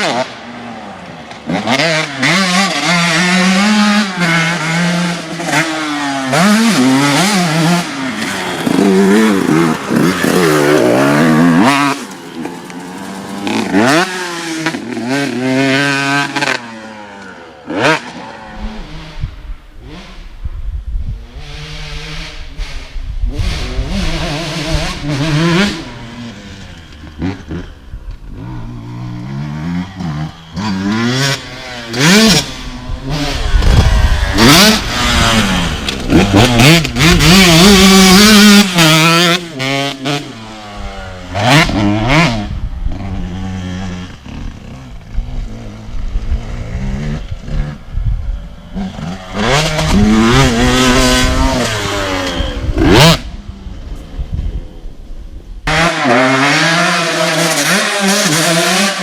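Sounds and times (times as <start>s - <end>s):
motocross engine revving: 0.0s - 20.5s, 21.1s - 59.0s.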